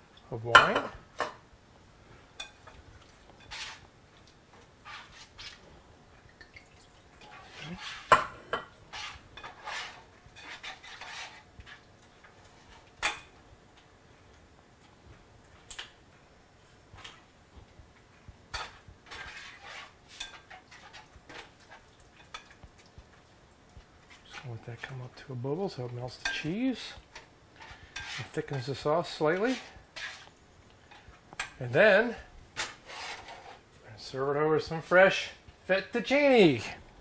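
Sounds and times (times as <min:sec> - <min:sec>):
spatula stirring food in pan: 0:02.2 - 0:15.8, 0:16.7 - 0:33.8.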